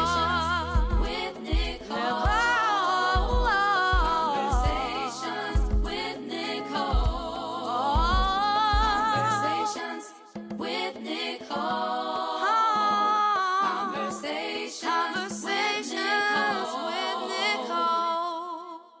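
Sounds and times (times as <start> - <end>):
unaccompanied voices singing in harmony: 0.0 - 18.8.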